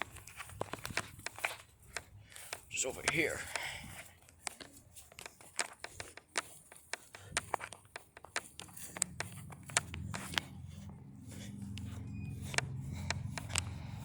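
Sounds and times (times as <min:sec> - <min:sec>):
footsteps: 0:00.0 - 0:14.0
handling clicks: 0:00.0 - 0:14.0.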